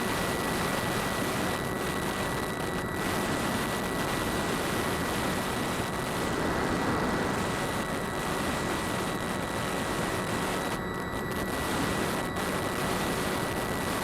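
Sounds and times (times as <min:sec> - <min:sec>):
drone motors and propellers: 0:00.0 - 0:14.0.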